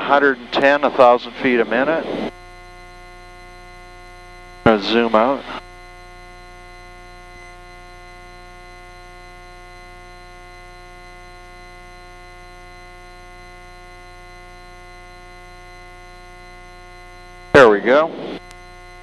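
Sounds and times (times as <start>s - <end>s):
aircraft cockpit engine drone: 0.0s - 19.0s.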